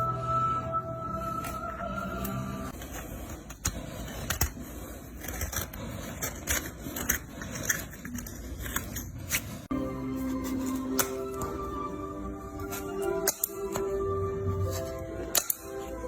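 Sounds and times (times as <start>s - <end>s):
hand tools scraping a hoof: 1.4s - 11.7s, 12.5s - 16.0s.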